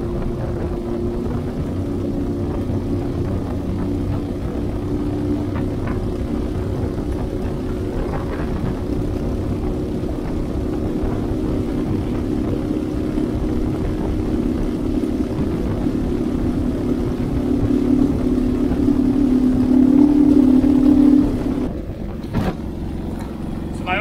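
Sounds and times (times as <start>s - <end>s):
light aircraft engine and propeller: 0.0s - 24.0s.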